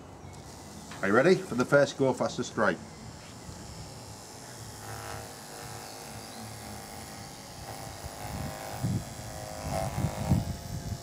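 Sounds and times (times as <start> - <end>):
electric clipper buzzing: 0.3 - 11.0.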